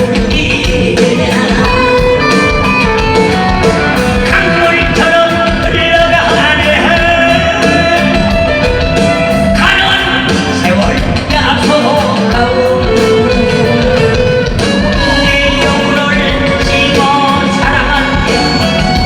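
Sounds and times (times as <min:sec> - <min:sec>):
guitar accompaniment: 0:00.0 - 0:19.0
person singing long notes: 0:00.0 - 0:19.0.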